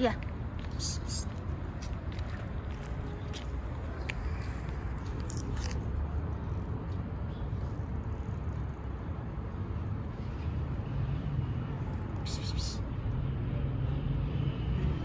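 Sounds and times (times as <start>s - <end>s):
low outdoor rumble: 0.0s - 12.6s.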